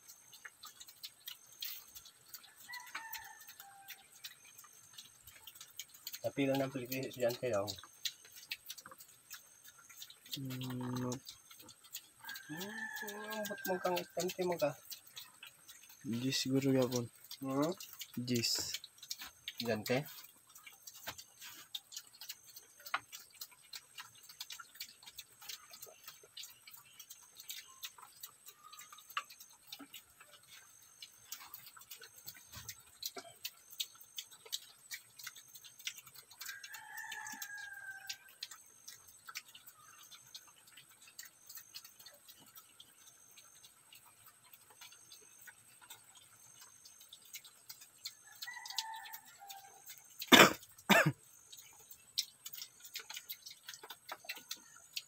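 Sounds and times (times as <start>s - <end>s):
piglets crunching feed: 0.0s - 55.0s.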